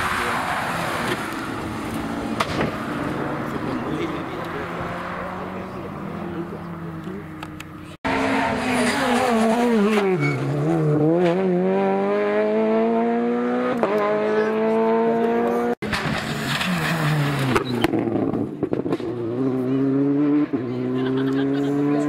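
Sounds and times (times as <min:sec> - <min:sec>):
rally car engine approaching: 0:00.0 - 0:22.0
rally car engine revving: 0:00.0 - 0:22.0.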